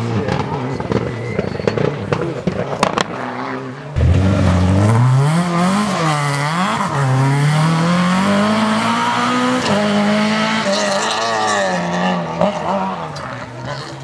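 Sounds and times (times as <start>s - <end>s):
rally car engine at full throttle: 0.0s - 14.0s.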